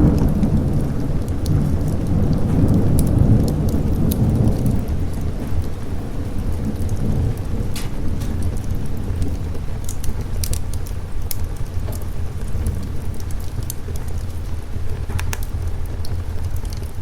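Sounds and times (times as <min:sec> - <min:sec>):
rolling thunder: 0:00.0 - 0:17.0
steady rain: 0:00.0 - 0:17.0
thunder crackles: 0:00.0 - 0:17.0.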